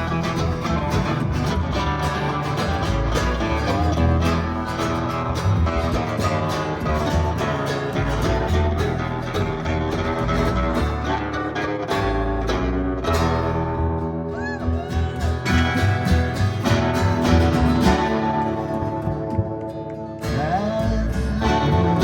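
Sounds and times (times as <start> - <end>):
guitar: 0.0 - 22.0
live country band playing: 0.0 - 22.0.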